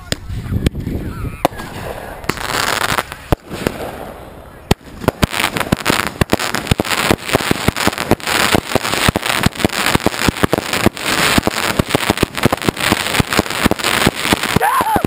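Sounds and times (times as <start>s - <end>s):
fireworks pops and bangs: 0.0s - 15.0s
fireworks crackling hiss: 0.3s - 15.0s.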